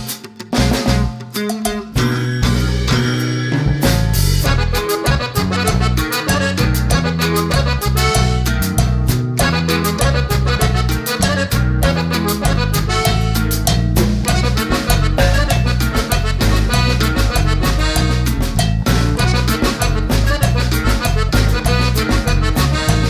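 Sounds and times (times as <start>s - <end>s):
upbeat latin music: 0.0s - 23.0s.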